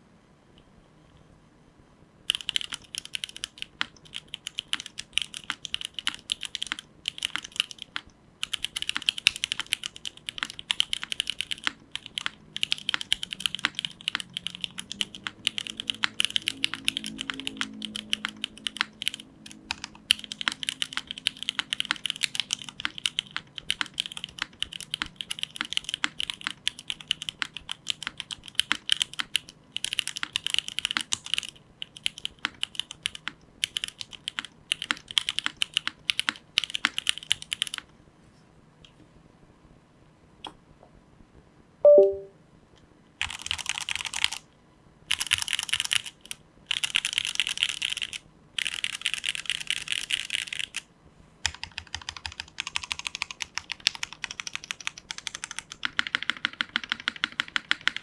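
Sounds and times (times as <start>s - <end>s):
mechanical keyboard typing: 2.3s - 37.9s, 41.9s - 42.3s, 43.2s - 44.5s, 45.1s - 58.0s.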